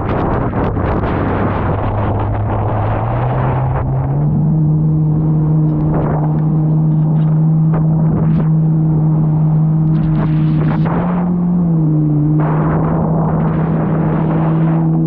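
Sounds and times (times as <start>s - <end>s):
jet ski engine running: 0.0s - 15.0s
water splashing against hull: 0.0s - 15.0s.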